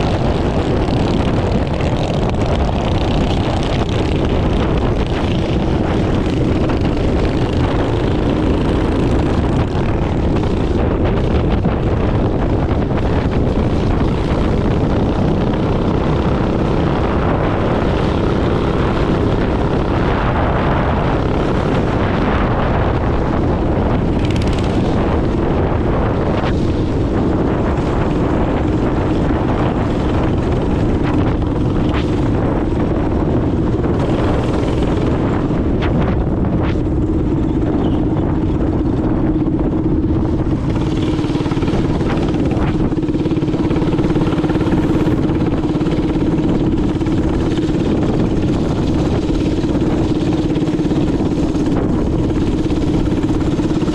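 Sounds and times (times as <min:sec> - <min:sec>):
minibike engine running: 0:00.0 - 0:53.9
wind buffeting microphone: 0:00.0 - 0:53.9.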